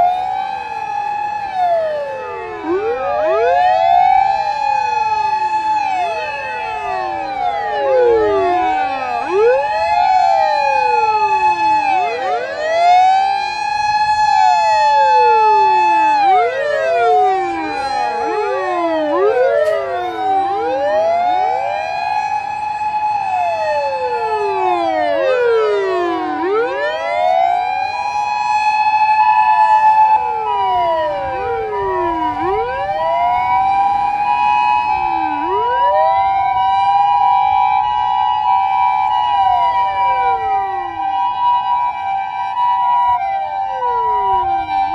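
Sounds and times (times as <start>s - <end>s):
choppy on-off siren tone: 0.0s - 44.9s
fire engine sirens wailing: 0.0s - 44.9s.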